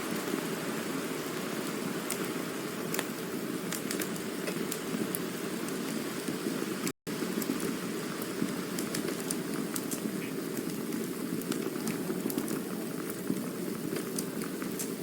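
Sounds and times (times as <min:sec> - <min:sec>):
burning wood crackling: 0:00.0 - 0:15.0
flames rushing: 0:00.0 - 0:15.0.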